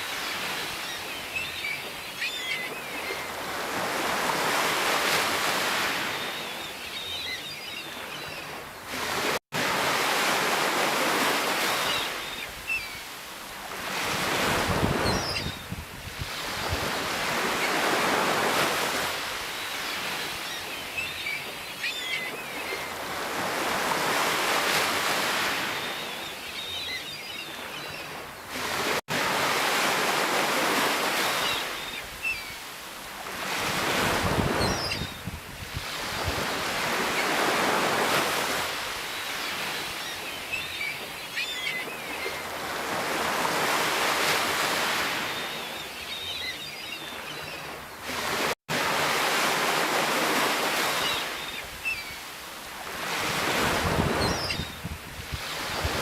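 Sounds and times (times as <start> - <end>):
sea waves breaking: 0.0 - 7.2, 7.9 - 46.2, 47.0 - 56.0.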